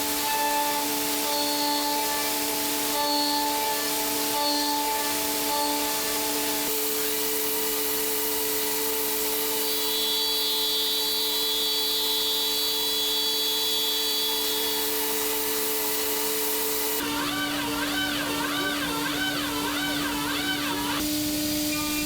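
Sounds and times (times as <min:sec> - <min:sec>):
milling machine spindle whine: 0:00.0 - 0:22.0.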